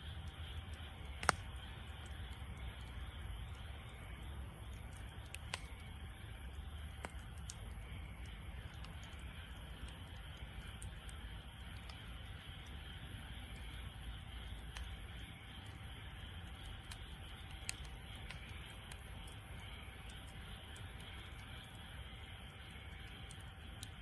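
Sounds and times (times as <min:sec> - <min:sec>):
low fire rumble: 0:00.0 - 0:24.0
wood fire popping and crackling: 0:00.0 - 0:24.0.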